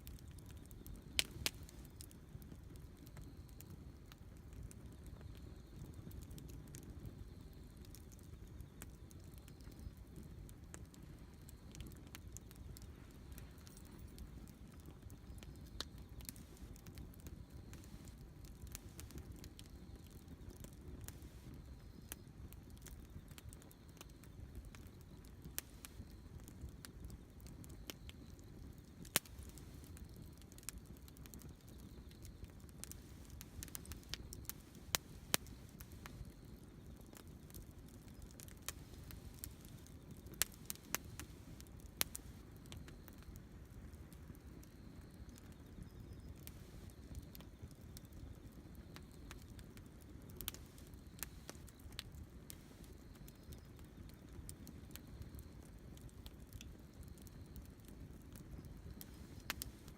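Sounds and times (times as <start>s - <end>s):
campfire pops and snaps: 0.0s - 48.2s, 48.9s - 59.9s
low rumble of burning fire: 0.0s - 59.9s.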